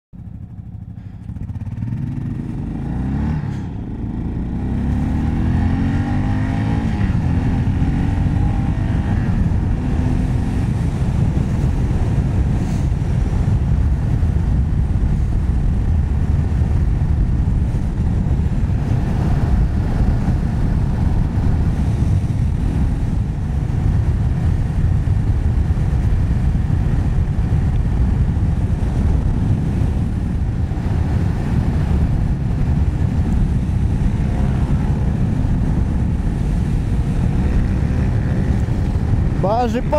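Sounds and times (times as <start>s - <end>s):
motorcycle engine revving: 0.2s - 39.9s
wind and road noise: 0.2s - 39.9s.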